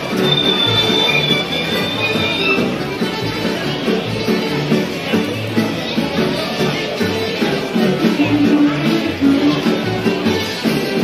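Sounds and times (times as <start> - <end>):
bass line: 0.0 - 11.0
folk band plucked strings: 0.0 - 11.0.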